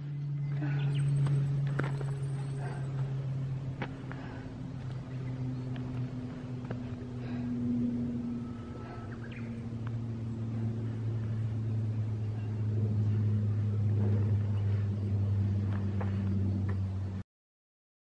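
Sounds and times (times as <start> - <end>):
low mechanical hum: 0.0 - 17.2.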